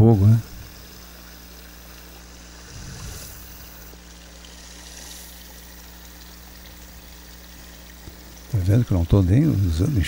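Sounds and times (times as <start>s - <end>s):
stream trickling: 0.0s - 10.0s.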